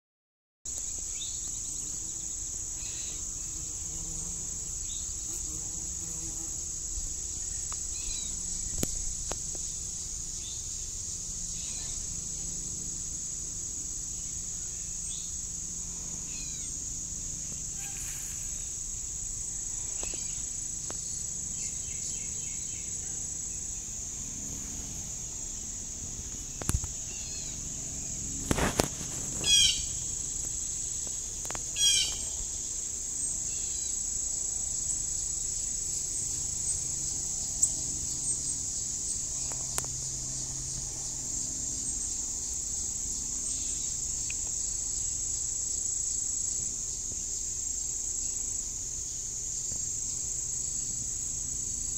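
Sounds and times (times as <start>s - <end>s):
insect chorus drone: 0.7s - 51.9s.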